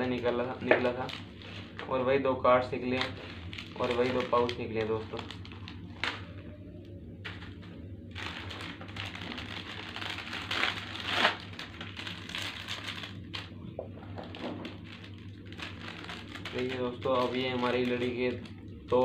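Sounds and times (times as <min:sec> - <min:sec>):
plastic snack packets crinkling: 0:00.0 - 0:02.0, 0:02.8 - 0:06.4, 0:07.2 - 0:19.0.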